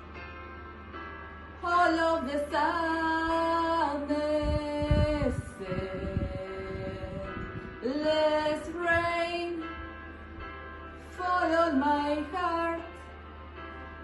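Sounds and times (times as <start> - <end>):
soft musical accompaniment: 0.0 - 14.0.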